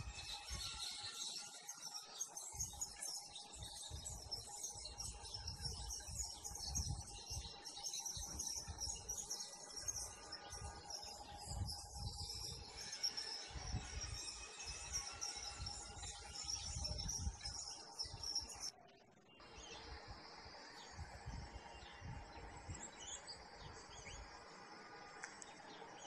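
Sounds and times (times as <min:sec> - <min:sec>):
birds and insects chirping: 0:00.0 - 0:26.0.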